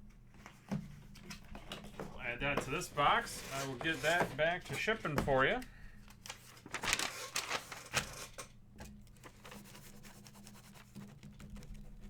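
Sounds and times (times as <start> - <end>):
trading cards clicking and scraping: 0.4 - 12.0.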